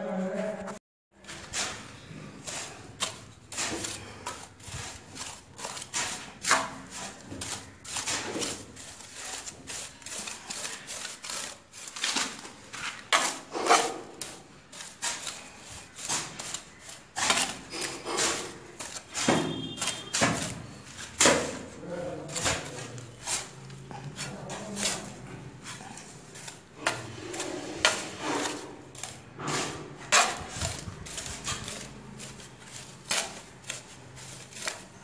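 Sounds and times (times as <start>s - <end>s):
tool scraping through damp sand: 1.2s - 35.0s.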